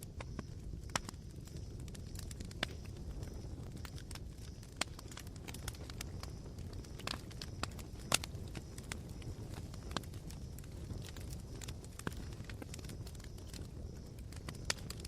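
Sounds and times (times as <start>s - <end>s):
campfire embers crackling: 0.0s - 15.0s.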